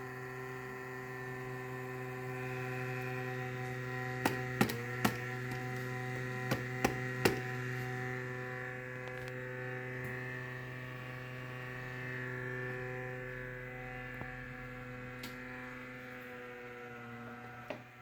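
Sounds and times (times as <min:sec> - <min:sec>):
laptop cooling fan buzzing: 0:00.0 - 0:18.0.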